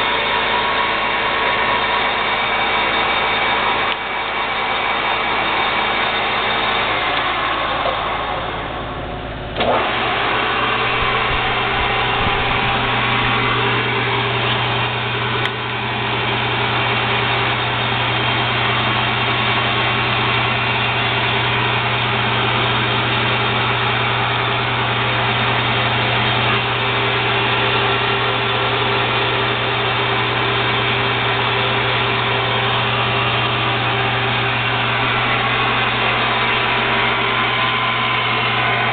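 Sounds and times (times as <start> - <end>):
metal lathe humming: 0.0 - 38.9.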